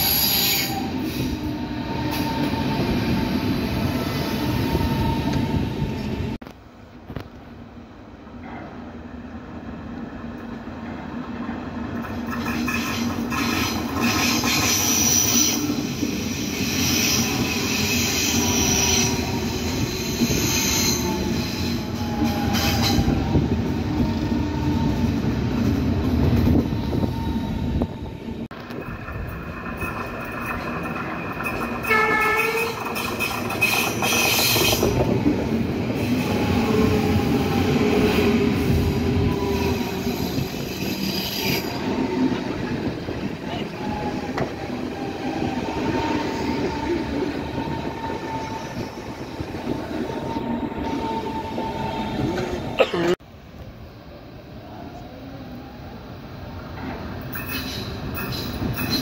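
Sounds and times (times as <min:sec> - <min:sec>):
electric train passing: 0:00.0 - 0:59.0
wheels rumbling on rail: 0:00.0 - 0:59.0.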